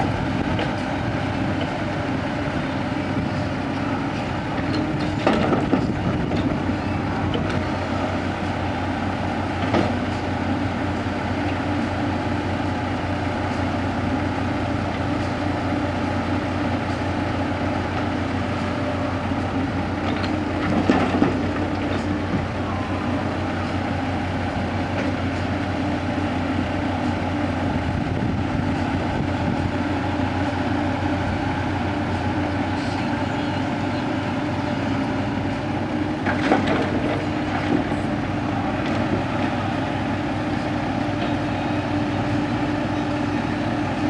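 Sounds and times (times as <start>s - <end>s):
diesel earthmoving machinery running: 0.0s - 44.0s.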